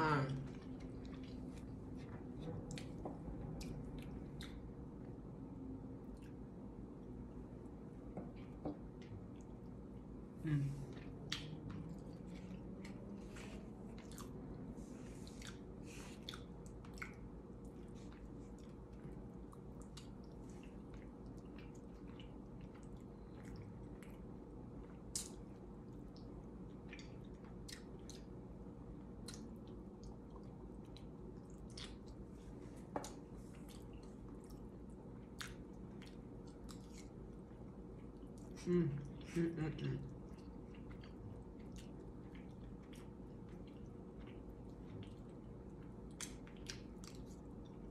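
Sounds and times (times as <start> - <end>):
steady low hum: 0.0 - 47.9
person chewing: 0.5 - 5.1, 10.9 - 39.2, 40.1 - 47.9.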